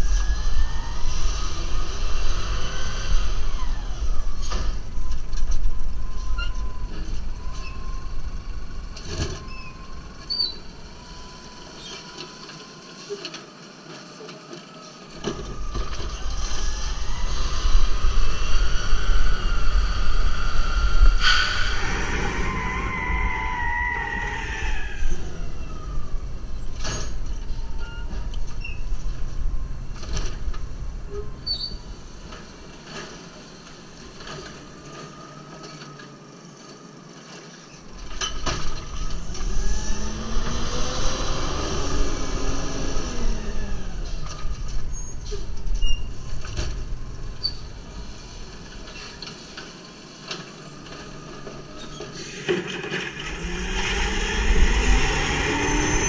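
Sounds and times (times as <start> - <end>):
garbage truck engine and hydraulics: 0.0 - 56.0.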